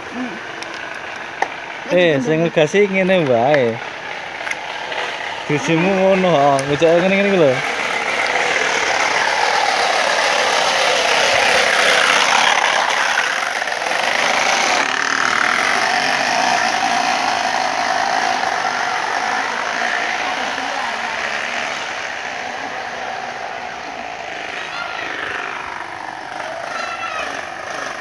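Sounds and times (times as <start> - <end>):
bottle buzzing against bicycle wheel: 0.0 - 28.0.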